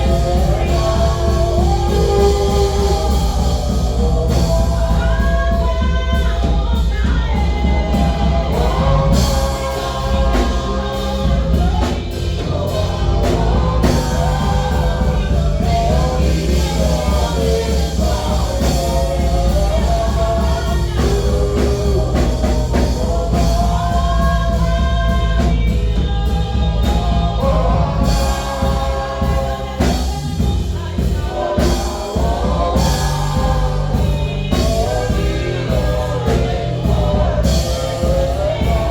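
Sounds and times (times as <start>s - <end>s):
gospel choir singing: 0.0s - 38.9s
live band with heavy bass: 0.0s - 38.9s.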